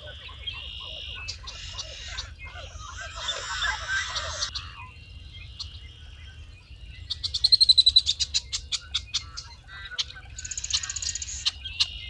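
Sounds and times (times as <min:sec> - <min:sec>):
chorus of marsh bird calls: 0:00.0 - 0:12.0.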